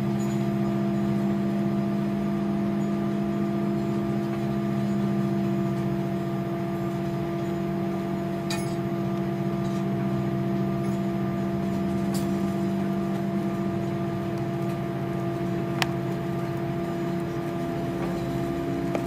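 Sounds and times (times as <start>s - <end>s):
airplane cabin engine drone: 0.0s - 19.0s.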